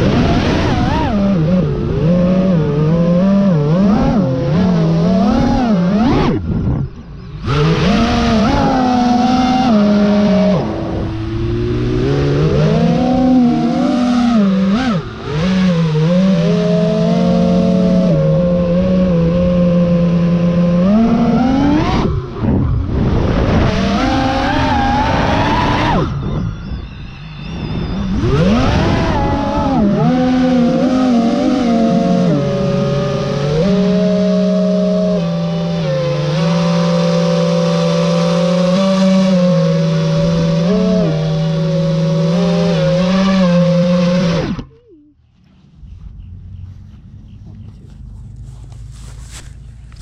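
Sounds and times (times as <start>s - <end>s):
drone motors and propellers whining: 0.0s - 50.0s.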